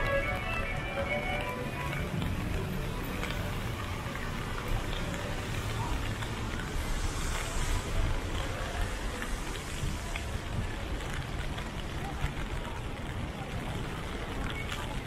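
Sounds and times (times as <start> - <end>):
rain falling on street: 0.0 - 15.0
ticks of raindrops: 0.0 - 15.0.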